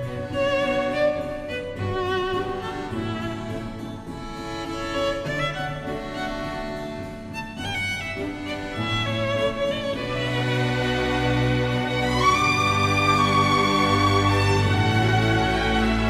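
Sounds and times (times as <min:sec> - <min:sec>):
sustained low strings: 0:00.0 - 0:16.0
violin melody with vibrato: 0:00.0 - 0:16.0.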